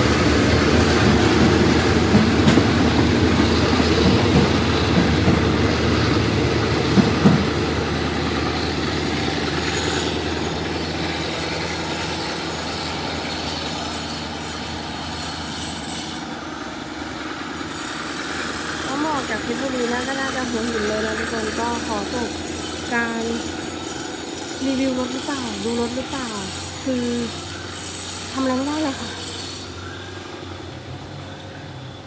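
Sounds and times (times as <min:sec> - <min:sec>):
high wheel squeals: 0:00.0 - 0:32.0
train wheels clattering on rails: 0:00.0 - 0:32.0.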